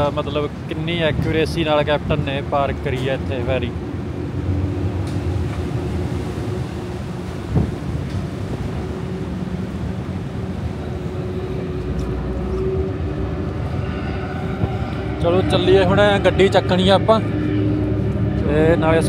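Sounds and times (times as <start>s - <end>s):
ship engines rumbling: 0.0s - 19.0s
steady hum: 0.0s - 19.0s.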